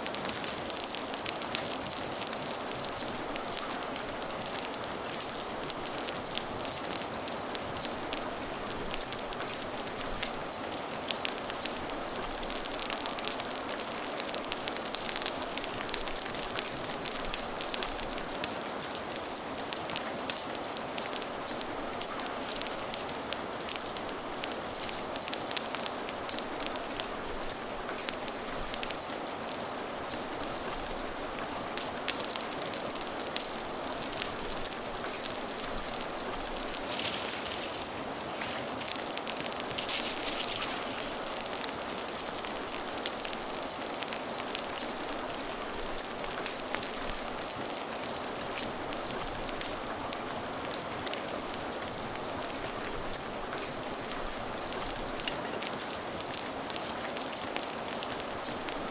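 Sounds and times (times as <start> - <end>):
fire crackling: 0.0 - 58.9
steady rain hiss: 0.0 - 58.9.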